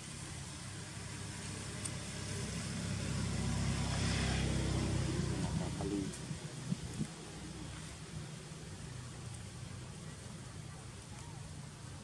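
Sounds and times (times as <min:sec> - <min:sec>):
vehicle passing by: 0:00.0 - 0:10.9.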